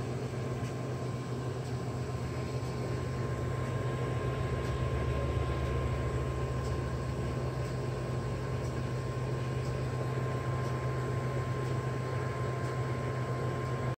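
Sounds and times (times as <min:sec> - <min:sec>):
constant thin whine: 0:00.0 - 0:13.9
steady mechanical hum: 0:00.0 - 0:13.9.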